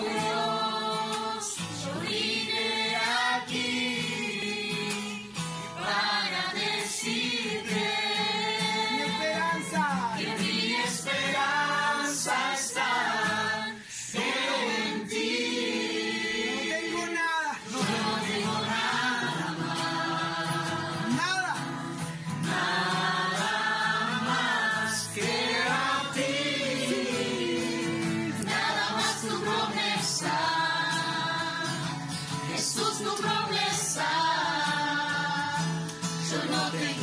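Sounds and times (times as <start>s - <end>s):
congregation singing: 0.0s - 37.0s.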